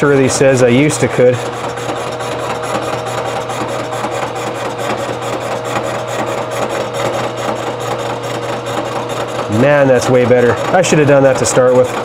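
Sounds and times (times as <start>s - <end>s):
milling cutter scraping metal: 0.0s - 12.0s
milling machine motor hum: 0.0s - 12.0s.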